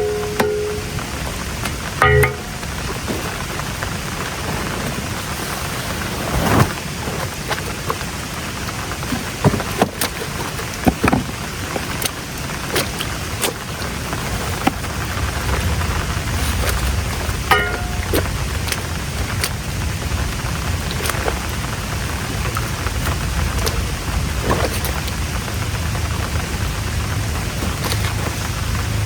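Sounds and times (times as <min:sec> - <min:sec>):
heavy rain falling: 0:00.0 - 0:29.0
water drips and splashes: 0:00.0 - 0:29.0.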